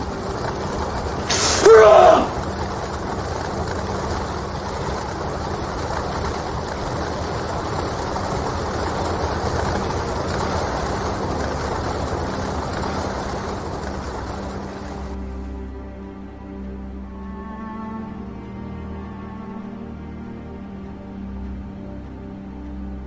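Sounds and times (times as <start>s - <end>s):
low hum: 0.0s - 23.0s
steady rushing noise: 0.0s - 23.0s.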